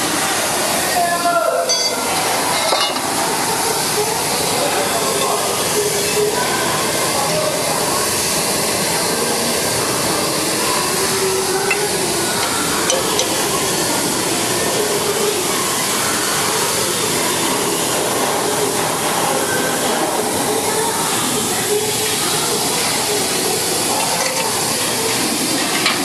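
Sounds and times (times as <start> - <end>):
loud machinery noise: 0.0 - 26.0.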